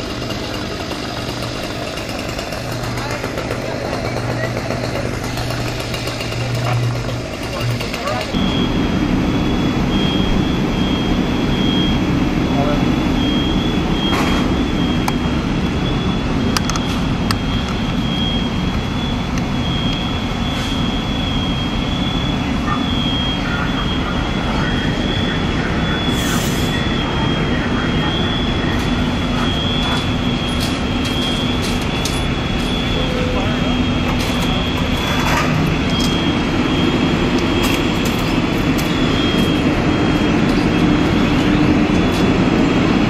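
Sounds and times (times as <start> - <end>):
fire truck engine droning: 0.0 - 43.0.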